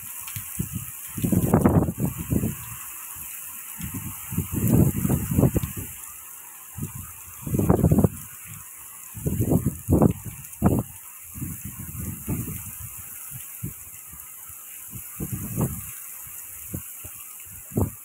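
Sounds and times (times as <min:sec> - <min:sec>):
wind buffeting microphone: 0:00.0 - 0:02.8, 0:03.7 - 0:06.0, 0:06.8 - 0:14.2, 0:14.9 - 0:18.0
heavy rain hissing: 0:00.0 - 0:18.0.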